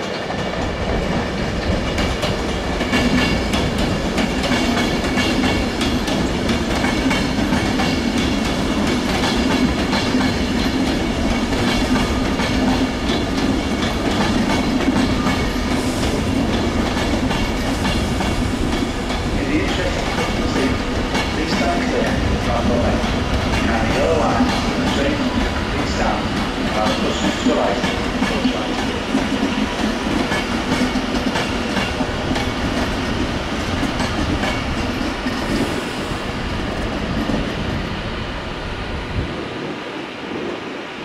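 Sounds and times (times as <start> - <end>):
train passing: 0.0 - 41.0.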